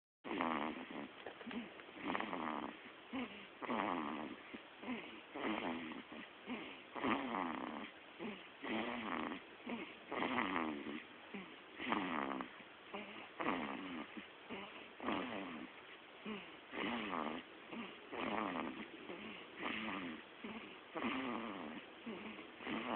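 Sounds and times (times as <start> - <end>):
baby snoring: 0.3 - 22.9.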